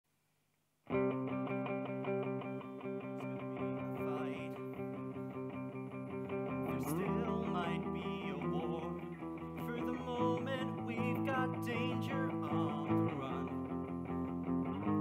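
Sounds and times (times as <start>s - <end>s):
guitar: 0.8s - 15.0s.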